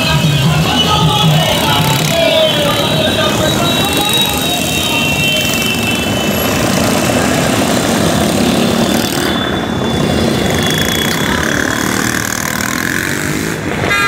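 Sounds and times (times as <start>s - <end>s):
motorcycles passing: 0.0s - 14.0s
trucks passing: 0.0s - 14.0s.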